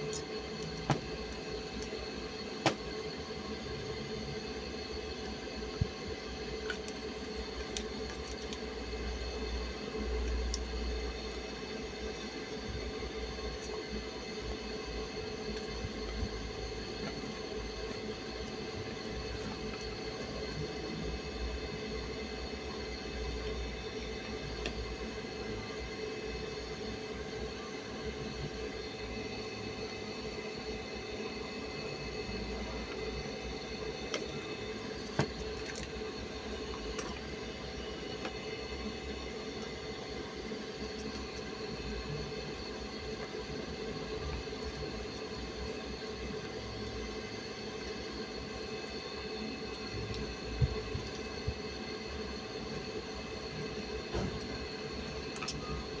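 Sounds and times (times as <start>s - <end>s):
drain pump motor humming: 0.0s - 27.0s, 28.7s - 56.0s.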